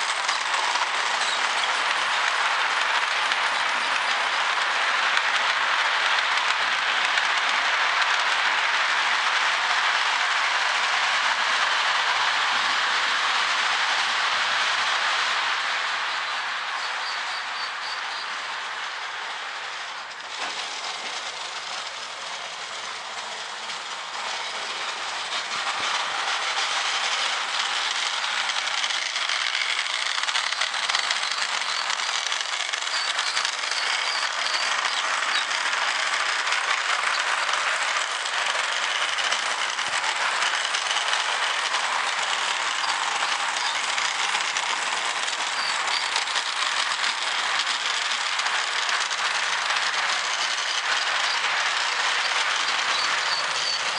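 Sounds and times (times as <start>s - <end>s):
toy train wheels on metal track: 0.0s - 53.9s.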